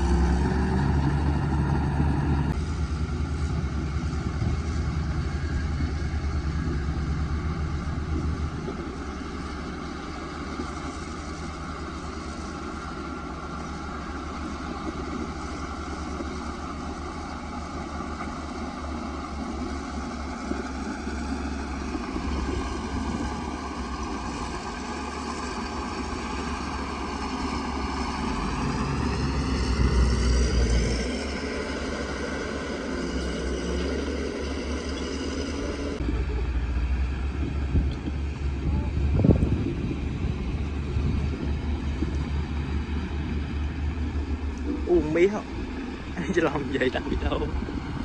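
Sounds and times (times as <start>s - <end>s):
bulldozer diesel engine under load: 0.0s - 48.0s.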